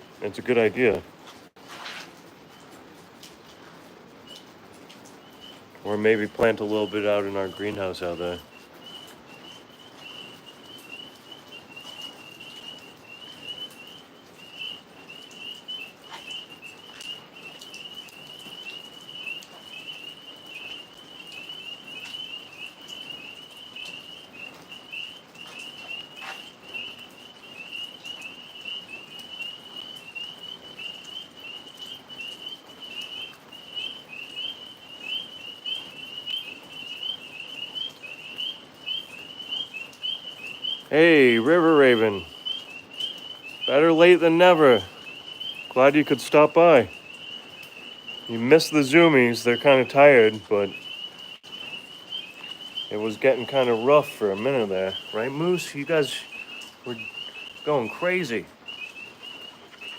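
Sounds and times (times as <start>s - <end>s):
tree frogs chirping: 0.0s - 59.9s.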